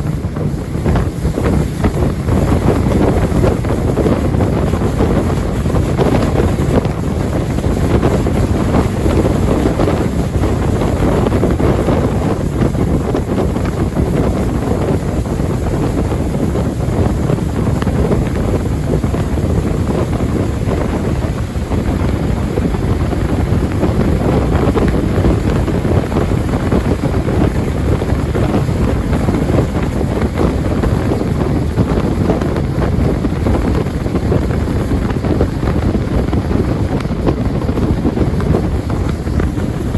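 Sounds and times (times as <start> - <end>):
jet boat running: 0.0 - 39.9
wind buffeting microphone: 0.0 - 39.9.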